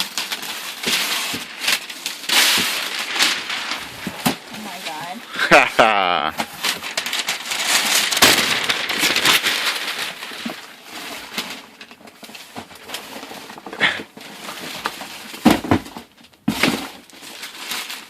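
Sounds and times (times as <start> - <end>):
wrapping paper crinkling and tearing: 0.0 - 18.0.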